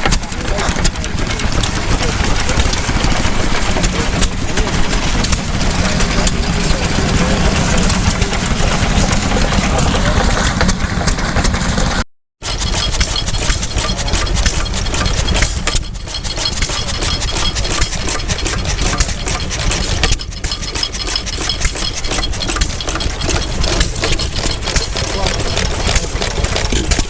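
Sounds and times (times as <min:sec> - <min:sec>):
stationary engine running: 0:00.0 - 0:27.0.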